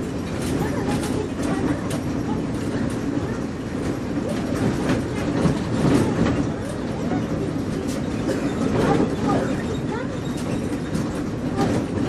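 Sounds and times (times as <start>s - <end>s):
bus body rattling: 0.0s - 12.0s
bus engine and road rumble: 0.0s - 12.0s
faint passenger voices: 0.0s - 12.0s.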